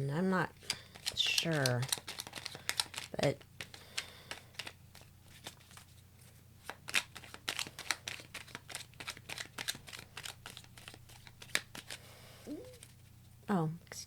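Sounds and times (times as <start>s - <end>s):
cards being shuffled: 0.6s - 13.1s.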